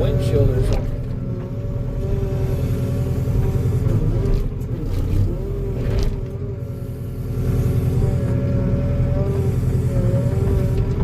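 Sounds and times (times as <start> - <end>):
diesel engine running: 0.0 - 11.0
hydraulic whine: 0.0 - 11.0.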